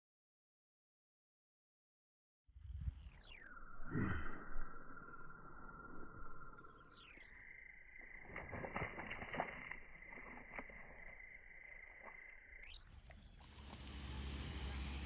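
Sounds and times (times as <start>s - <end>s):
muffled outdoor background: 2.6s - 15.0s.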